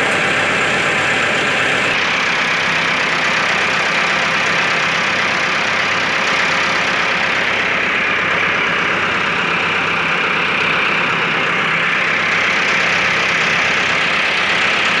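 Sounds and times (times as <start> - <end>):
tractor engine and thresher running: 0.0 - 15.0.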